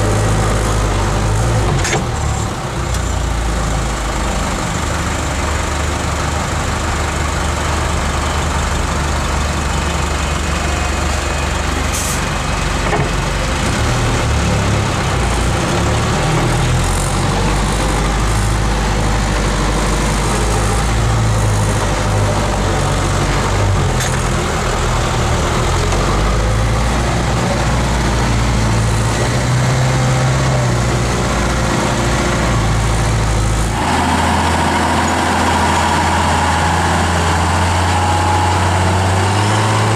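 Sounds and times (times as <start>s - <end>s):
diesel engine running: 0.0s - 39.9s
truck engine outside: 0.0s - 39.9s.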